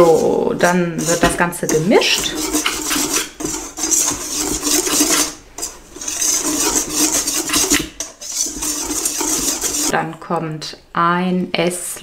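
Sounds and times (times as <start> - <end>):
whisk scraping a steel bowl: 0.0 - 10.0.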